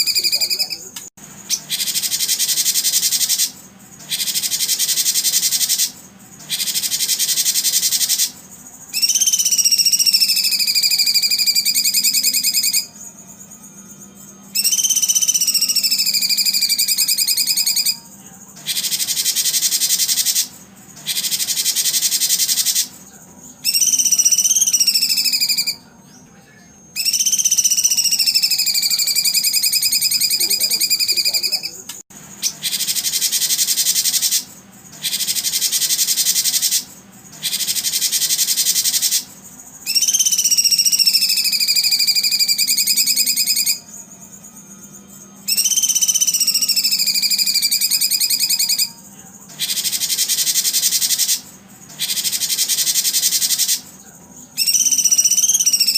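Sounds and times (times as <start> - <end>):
long whistled calls: 0.0 - 23.0, 23.6 - 25.9, 26.9 - 53.9, 54.5 - 55.9
high buzzing insect chorus: 0.0 - 55.9.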